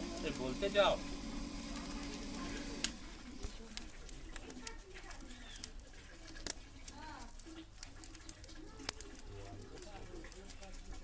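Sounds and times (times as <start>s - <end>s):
gravy boiling: 0.0s - 11.0s
sharp crackles: 0.0s - 11.0s.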